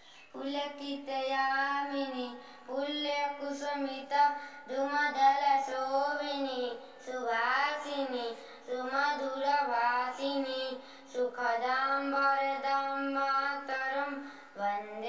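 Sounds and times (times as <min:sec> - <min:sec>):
boy singing unaccompanied: 0:00.3 - 0:15.0.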